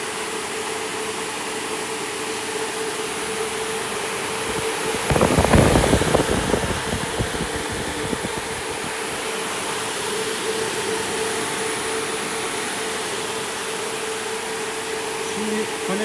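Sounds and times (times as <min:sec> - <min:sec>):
ventilator fans running: 0:00.0 - 0:16.0.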